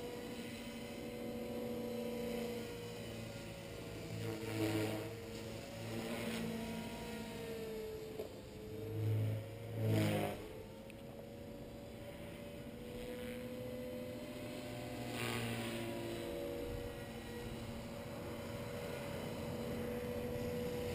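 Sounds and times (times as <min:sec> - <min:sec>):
rc helicopter motor and rotor whine: 0:00.0 - 0:20.9.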